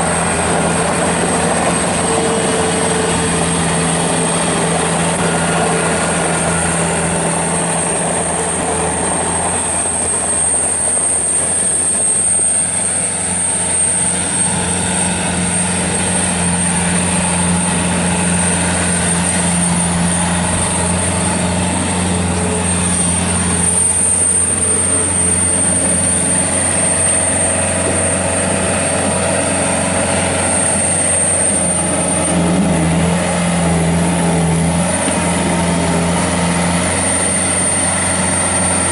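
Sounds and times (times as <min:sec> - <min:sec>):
diesel engine running: 0:00.0 - 0:38.9
high steady whine: 0:00.0 - 0:38.9.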